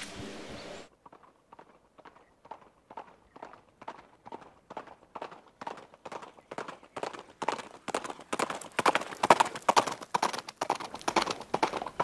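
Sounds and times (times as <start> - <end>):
horse hooves clip-clopping: 0.9 - 12.0.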